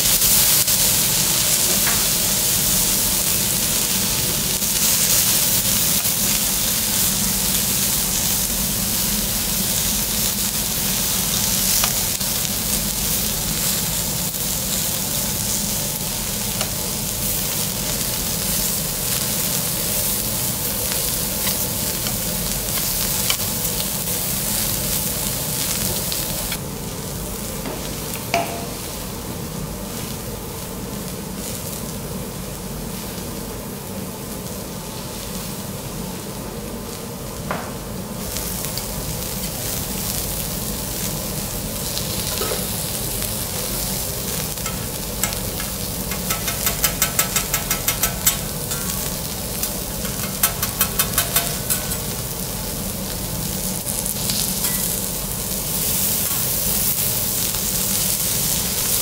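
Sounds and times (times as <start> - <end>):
seafood sizzling on hot plate: 0.0 - 59.0.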